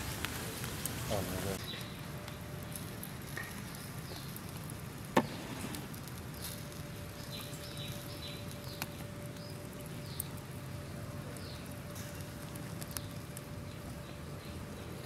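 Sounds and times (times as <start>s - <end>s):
meat crackling on charcoal grill: 0.0s - 15.0s.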